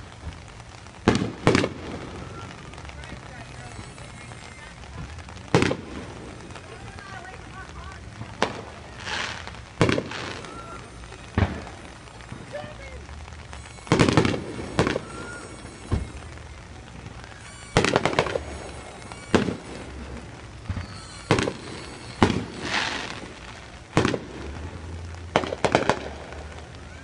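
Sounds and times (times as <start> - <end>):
fireworks shells bursting: 0.0 - 26.9
fireworks crackling: 0.0 - 27.0.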